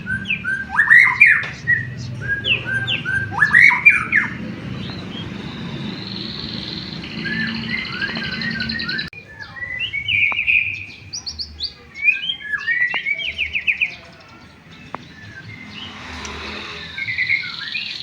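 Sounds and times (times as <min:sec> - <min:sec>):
bird singing whistled notes: 0:00.0 - 0:18.0
loud sweeping bird calls: 0:00.0 - 0:18.0
rapid buzzy bird trill: 0:00.0 - 0:18.0.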